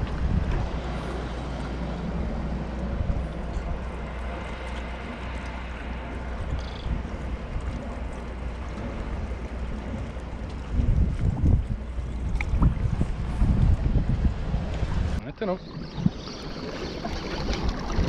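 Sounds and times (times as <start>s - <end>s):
wind rumbling on microphone: 0.0s - 18.0s
sea water washing against rocks: 0.6s - 18.0s.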